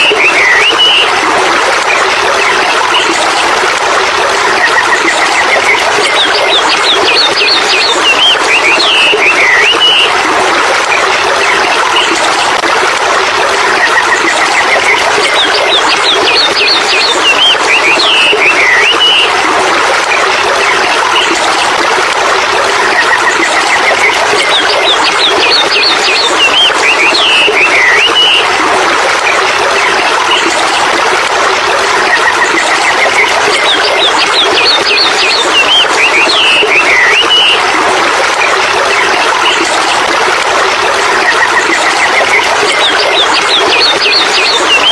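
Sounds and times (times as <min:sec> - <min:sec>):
rushing water: 0:00.0 - 0:44.9.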